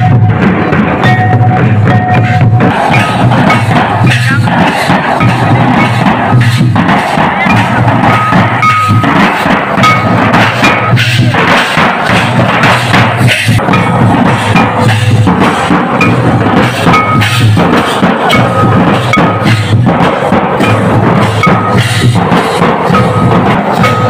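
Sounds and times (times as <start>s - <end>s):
hand cymbals clashing: 0.0s - 24.0s
large drums beaten with sticks: 0.0s - 24.0s.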